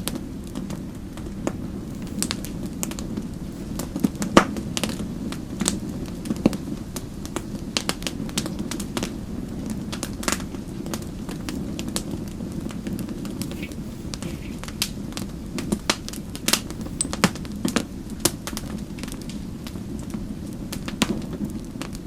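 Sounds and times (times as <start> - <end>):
low rush of flames: 0.0 - 22.0
sharp fire pops: 0.0 - 22.0
wood fire crackling: 0.0 - 22.0.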